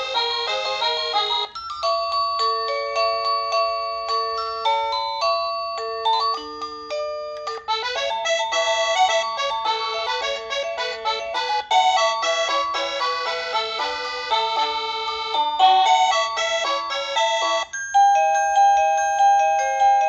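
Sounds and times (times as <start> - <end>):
electronic doorbell chime melody: 0.0 - 20.0.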